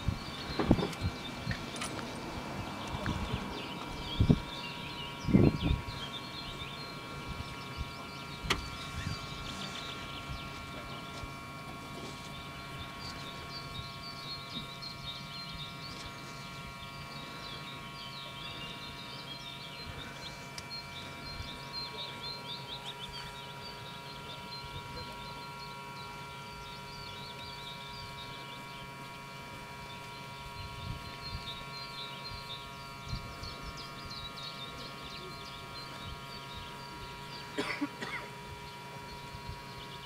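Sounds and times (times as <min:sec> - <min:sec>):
faint steady tonal hum: 0:00.0 - 0:40.0
small birds chirping: 0:00.0 - 0:40.0.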